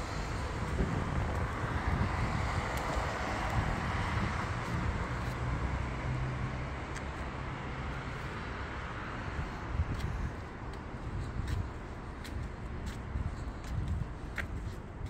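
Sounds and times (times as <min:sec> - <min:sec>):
wind buffeting microphone: 0:00.0 - 0:06.8, 0:09.0 - 0:15.0.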